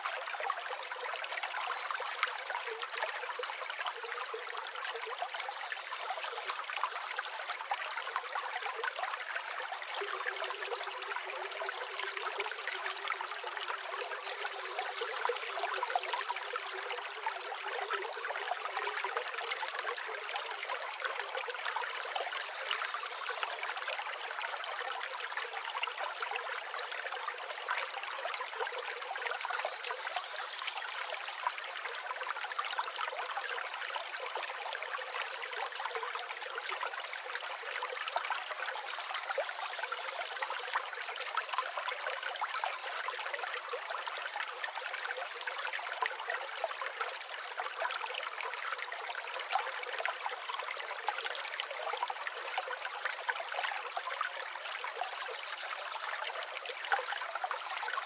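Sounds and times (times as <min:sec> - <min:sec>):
river water babbling over stones: 0:00.0 - 0:58.0.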